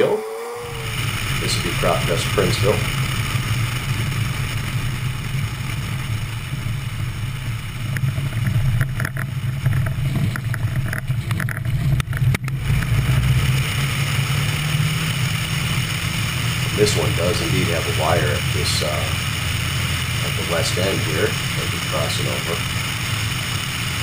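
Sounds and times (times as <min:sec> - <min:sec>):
airplane engine droning: 0:00.0 - 0:24.0
wind rushing over microphone: 0:00.0 - 0:24.0.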